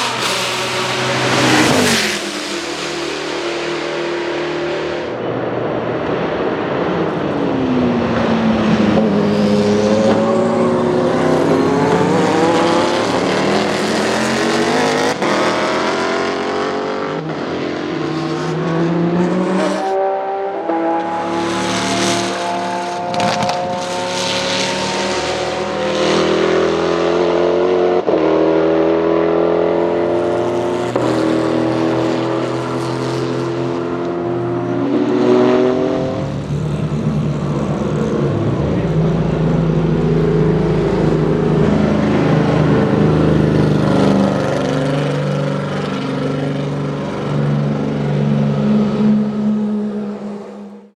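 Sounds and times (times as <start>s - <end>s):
racing car engine accelerating: 0.0s - 50.9s.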